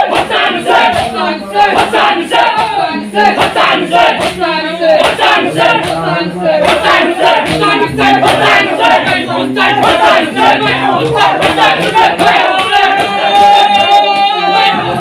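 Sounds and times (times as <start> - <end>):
men chanting and singing: 0.0 - 15.0
rhythmic chest slaps: 0.0 - 15.0.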